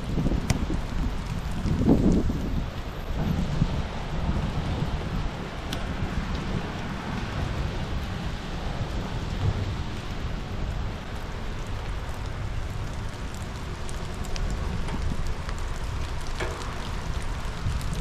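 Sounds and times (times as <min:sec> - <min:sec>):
rain falling: 0:00.0 - 0:18.0
raindrops ticking on surfaces: 0:00.0 - 0:18.0.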